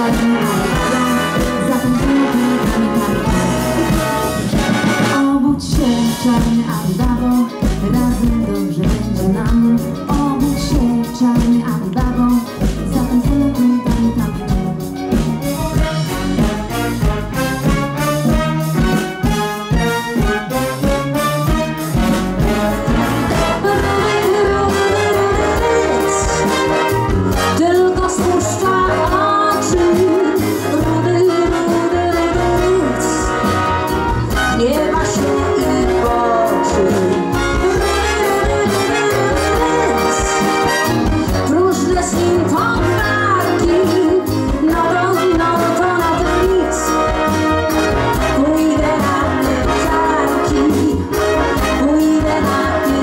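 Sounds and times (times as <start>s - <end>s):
driving drum beat: 0.0s - 53.0s
orchestra with brass playing: 0.0s - 53.0s.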